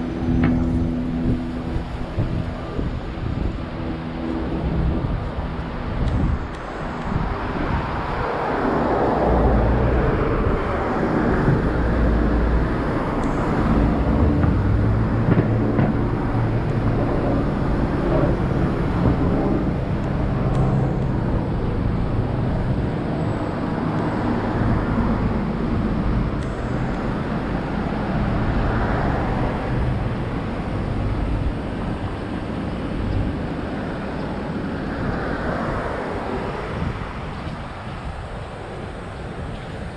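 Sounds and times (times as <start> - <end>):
vehicles passing: 0.0 - 39.9.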